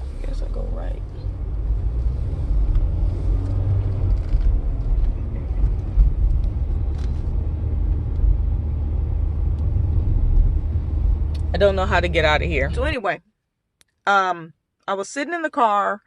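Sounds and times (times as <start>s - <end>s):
car engine and road rumble: 0.0s - 13.2s.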